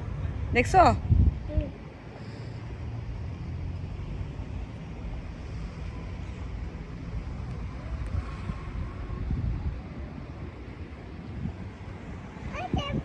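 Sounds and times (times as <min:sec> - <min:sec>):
wind and water hiss: 0:00.0 - 0:13.0.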